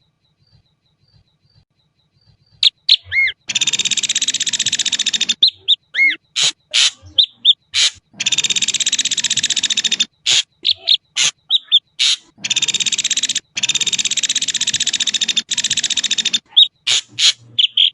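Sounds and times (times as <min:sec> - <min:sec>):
bird singing sharp notes and whistles: 0:00.0 - 0:17.9
bird rattling trill: 0:00.4 - 0:17.9.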